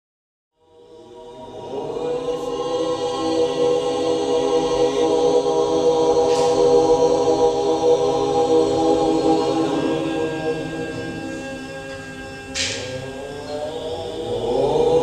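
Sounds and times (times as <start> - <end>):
choir chanting: 0.6 - 15.0.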